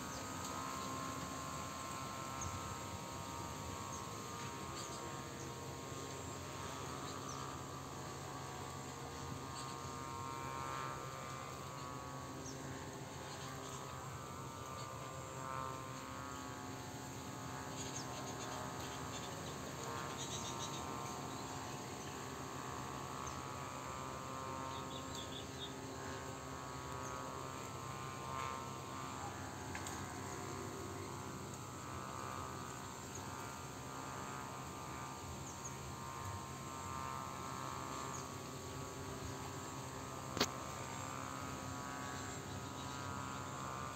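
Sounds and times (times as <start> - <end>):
constant low hum: 0.0 - 43.9
faint insect sounds: 0.0 - 43.9.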